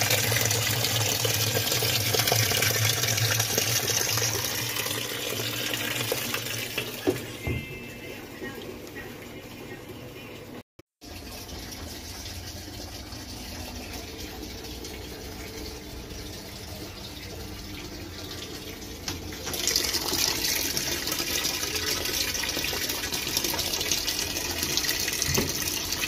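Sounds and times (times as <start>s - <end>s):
water splashing into washing machine drum: 0.0s - 9.7s, 11.0s - 26.0s.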